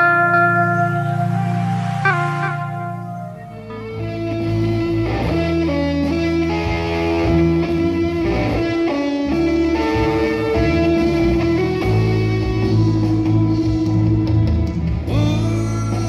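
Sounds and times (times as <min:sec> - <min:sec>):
bass guitar: 0:00.0 - 0:16.0
electric guitar lead: 0:00.0 - 0:16.0
guitar chords: 0:00.0 - 0:16.0.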